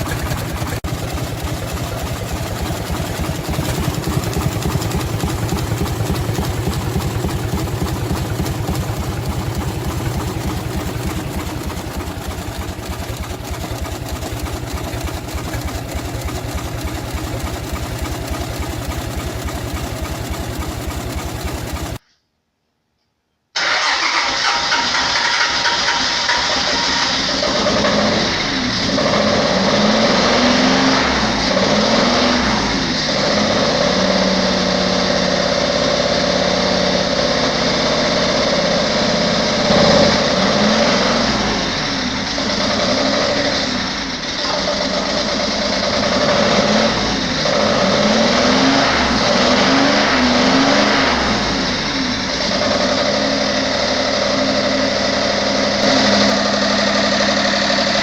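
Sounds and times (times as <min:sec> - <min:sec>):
diesel engine revving: 0:00.0 - 0:22.0, 0:23.6 - 0:58.0.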